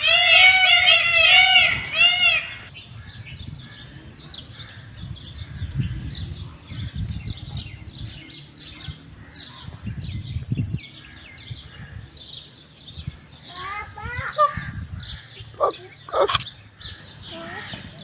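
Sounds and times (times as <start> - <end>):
small birds chirping: 1.0 - 18.0.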